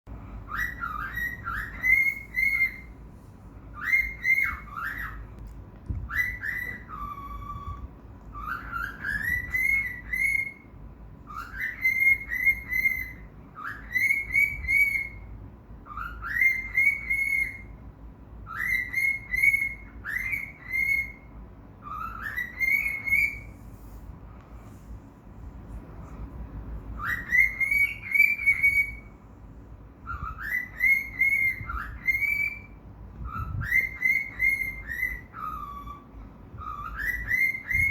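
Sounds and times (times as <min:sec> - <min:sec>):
cockatiel whistling: 0:00.5 - 0:03.0, 0:03.7 - 0:05.3, 0:06.0 - 0:17.8, 0:18.4 - 0:23.6, 0:26.9 - 0:29.2, 0:30.0 - 0:37.9.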